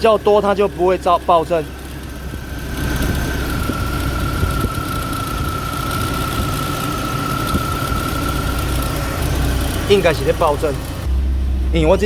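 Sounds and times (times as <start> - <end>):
car engine running: 0.0 - 12.0
high-pitched whine: 0.0 - 12.0.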